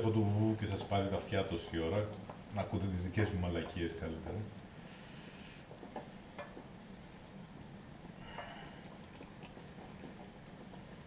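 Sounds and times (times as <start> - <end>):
pan simmering: 0.0 - 11.0.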